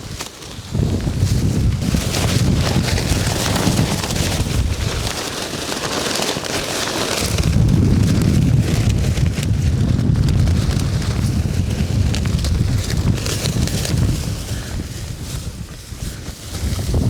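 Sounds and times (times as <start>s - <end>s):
crackling rustle: 0.0s - 17.0s
wind buffeting microphone: 0.0s - 17.0s.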